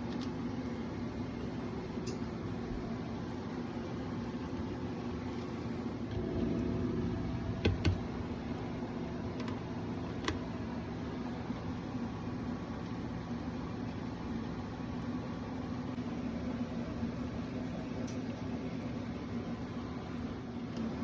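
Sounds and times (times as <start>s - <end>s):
low mechanical motor hum: 0.0s - 21.0s.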